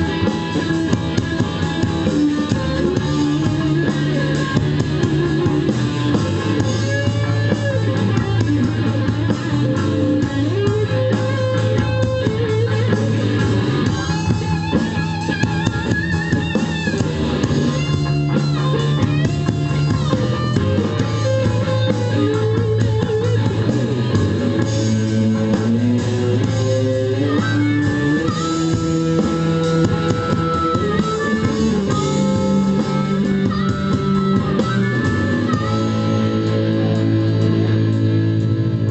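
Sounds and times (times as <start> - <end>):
bass guitar: 0.0 - 38.9
drums: 0.0 - 38.9
electric guitar lead: 0.0 - 38.9.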